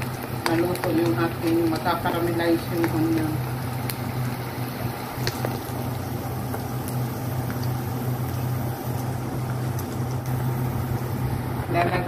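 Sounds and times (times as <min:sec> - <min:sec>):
food frying in oil: 0:00.0 - 0:12.0
steady low hum: 0:00.0 - 0:12.0.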